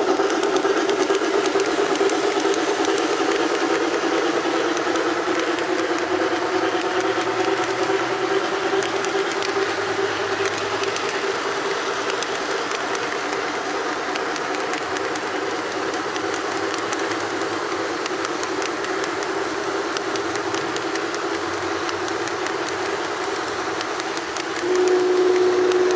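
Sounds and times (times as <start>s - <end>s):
model train wheels rolling hum: 0.0s - 25.9s.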